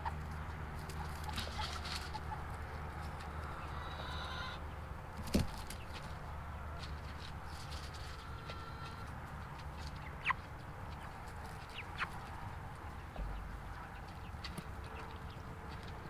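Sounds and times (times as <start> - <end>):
chickens chirping: 0.0 - 16.0
steady low background noise: 0.0 - 16.0.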